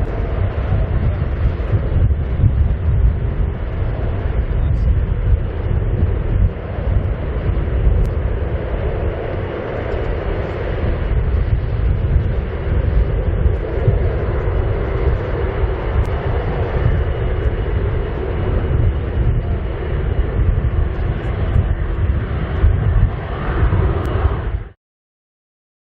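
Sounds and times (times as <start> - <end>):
jet engines at takeoff power: 0.0 - 24.8.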